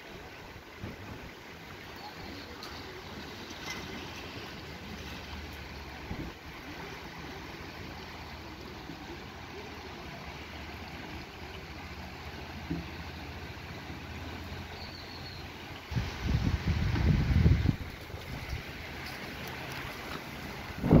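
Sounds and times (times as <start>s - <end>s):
river rushing over gravel: 0.0s - 21.0s.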